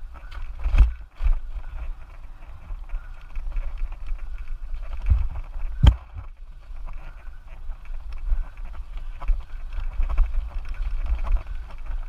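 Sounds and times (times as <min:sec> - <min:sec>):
bike rattling over bumps: 0:00.0 - 0:12.0
wind rumble on microphone: 0:00.0 - 0:12.0.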